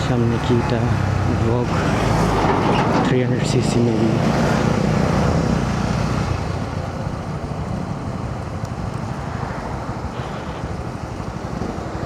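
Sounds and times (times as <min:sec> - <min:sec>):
motorcycle engine and road noise: 0:00.0 - 0:12.0
wind rumble over microphone: 0:01.0 - 0:12.0.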